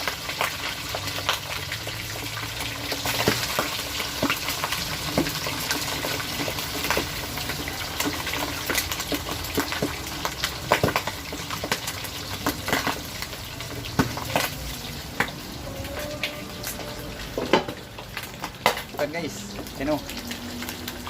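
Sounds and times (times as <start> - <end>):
meat sizzling in hot oil: 0.0 - 21.0
oil popping and crackling: 0.0 - 21.0.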